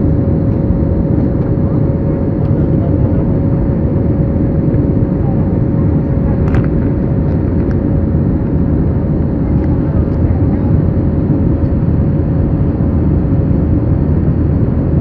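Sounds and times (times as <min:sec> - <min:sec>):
airliner cabin engine roar: 0:00.0 - 0:15.0.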